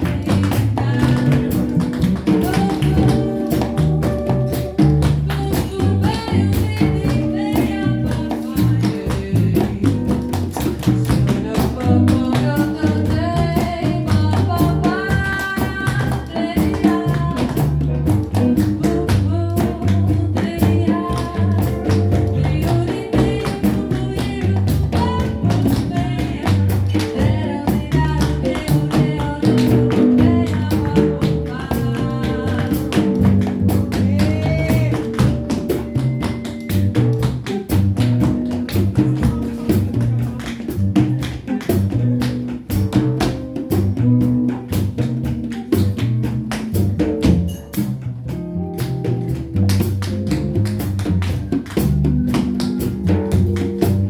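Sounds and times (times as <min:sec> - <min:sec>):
tap shoes tapping on floor: 0:00.0 - 0:47.7, 0:48.8 - 0:54.0
live jazz band: 0:00.0 - 0:54.0.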